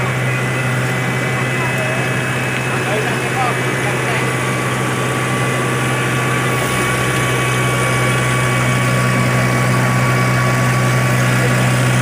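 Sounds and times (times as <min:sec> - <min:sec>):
diesel engine of paving machinery: 0:00.0 - 0:12.0.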